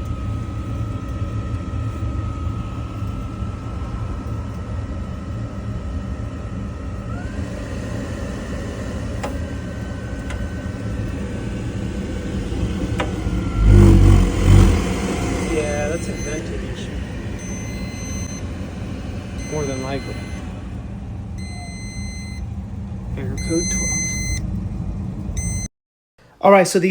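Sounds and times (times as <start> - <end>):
thin whine: 0.0 - 25.7
water heater rumbling: 0.0 - 25.7.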